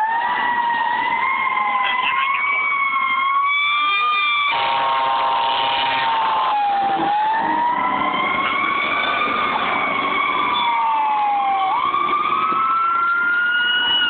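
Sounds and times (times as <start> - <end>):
fire engine siren wailing: 0.0 - 14.0.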